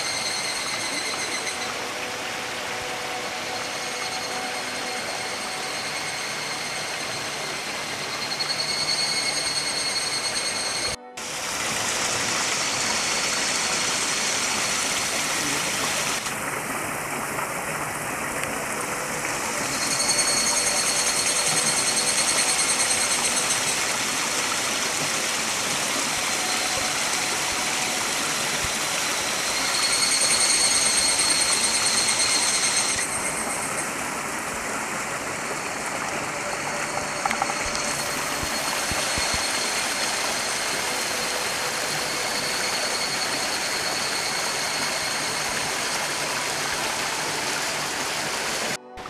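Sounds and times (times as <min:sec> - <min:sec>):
thin high buzz: 0:00.0 - 0:16.3, 0:18.8 - 0:34.9, 0:35.6 - 0:47.3
stream rushing over rocks: 0:00.0 - 0:49.0.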